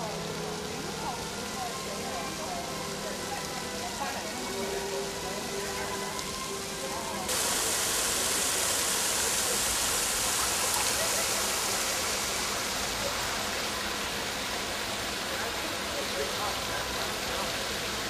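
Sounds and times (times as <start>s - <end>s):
fountain splashing into basin: 0.0s - 18.0s.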